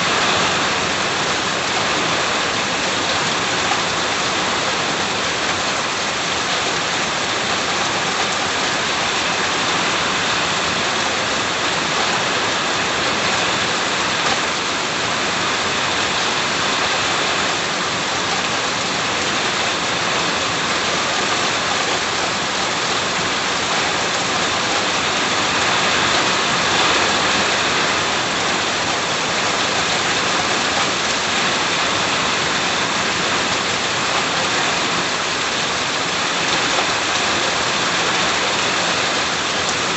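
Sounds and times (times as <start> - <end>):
heavy rain on a house: 0.0 - 39.9.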